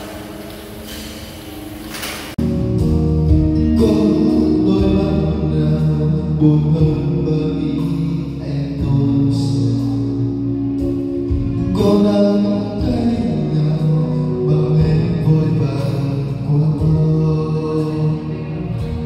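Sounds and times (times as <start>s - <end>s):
low steady accompaniment: 0.0s - 19.0s
music with long held notes: 0.0s - 19.0s.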